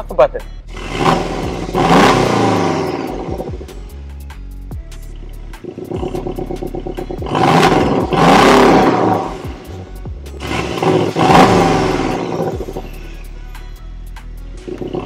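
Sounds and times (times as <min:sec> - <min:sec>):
car engine revving: 0:00.6 - 0:13.4, 0:14.5 - 0:15.0.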